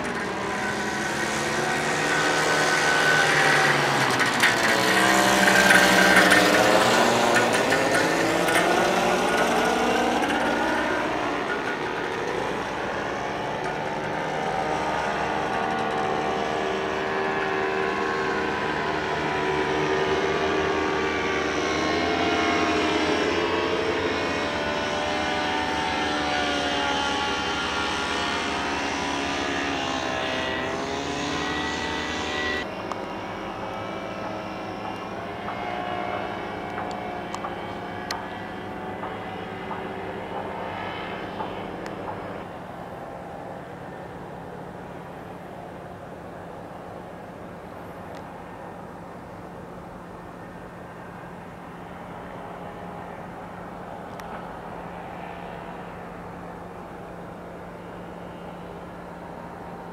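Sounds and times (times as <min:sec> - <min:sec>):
paramotors buzzing overhead: 0:00.0 - 0:59.9.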